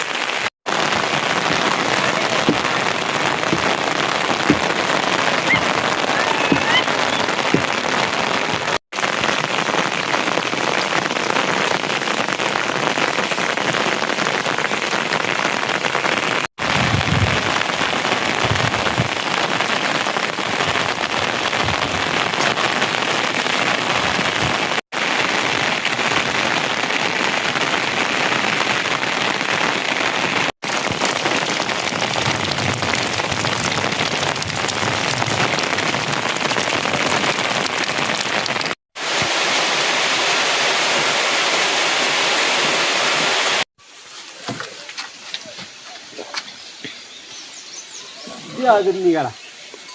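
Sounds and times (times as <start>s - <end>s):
heavy rain spattering: 0.0s - 49.9s.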